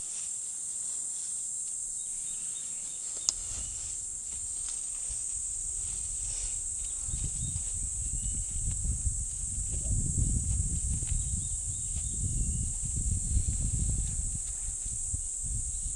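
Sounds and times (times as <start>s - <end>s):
insects chirring: 0.0s - 15.9s.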